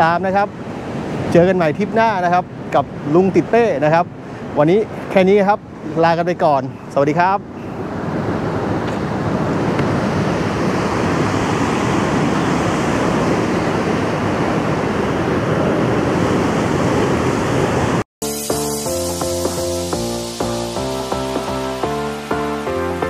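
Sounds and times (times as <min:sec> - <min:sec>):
wind noise on microphone: 0:00.0 - 0:06.0, 0:06.6 - 0:22.0
ocean surf: 0:00.0 - 0:23.0.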